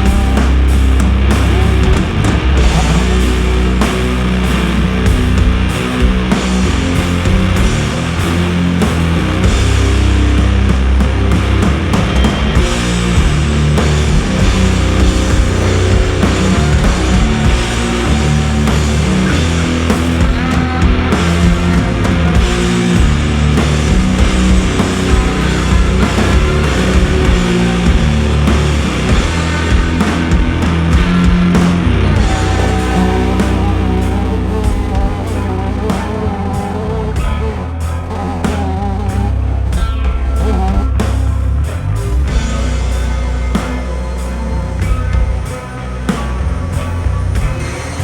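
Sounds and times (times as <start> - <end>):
heavy rock music: 0.0 - 48.0.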